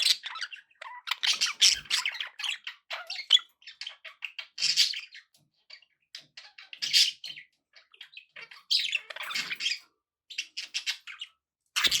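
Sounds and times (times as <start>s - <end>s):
budgerigars chattering: 0.0s - 12.0s
harsh bird calls: 0.0s - 12.0s.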